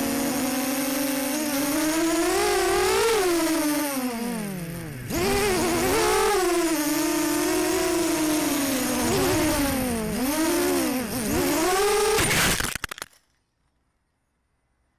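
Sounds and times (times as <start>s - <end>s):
quadcopter motors whining: 0.0s - 12.8s.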